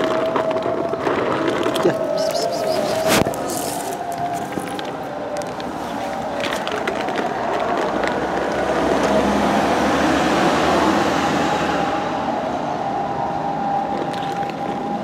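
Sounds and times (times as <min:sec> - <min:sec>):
street traffic noise: 0:00.0 - 0:15.0
vehicle passing: 0:01.7 - 0:06.4, 0:07.4 - 0:14.9.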